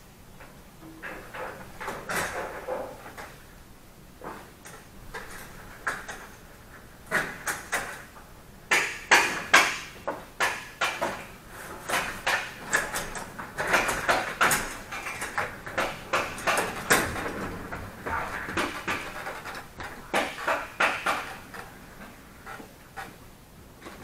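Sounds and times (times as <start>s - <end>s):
office chairs knocking and scraping: 0.4s - 3.5s, 4.2s - 24.0s.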